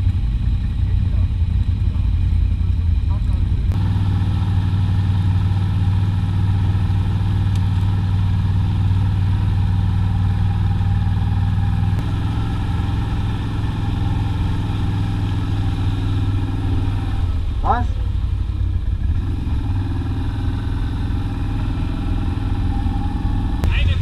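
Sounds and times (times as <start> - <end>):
quad bike engine running: 0.0 - 24.0.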